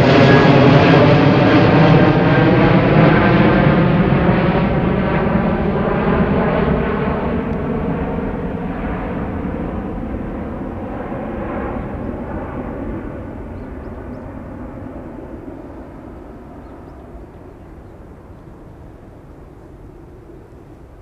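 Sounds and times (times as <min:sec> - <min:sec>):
jet engines at takeoff thrust: 0:00.0 - 0:21.0.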